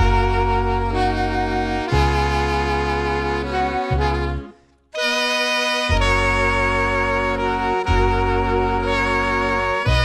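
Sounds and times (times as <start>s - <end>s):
sustained music chords: 0.0s - 10.0s.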